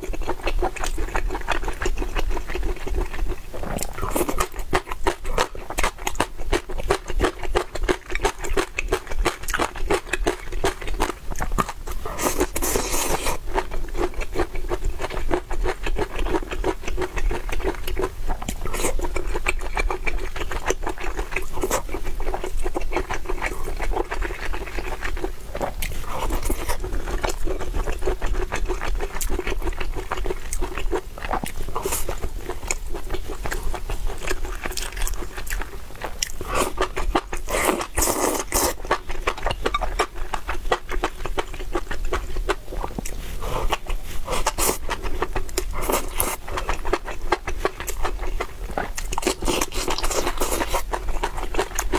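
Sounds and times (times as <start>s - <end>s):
chewing and biting crunches: 0.0s - 51.9s.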